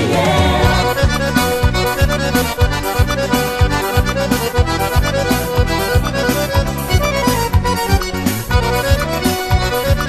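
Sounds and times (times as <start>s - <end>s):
accordion melody: 0.0s - 10.0s
bass: 0.0s - 10.0s.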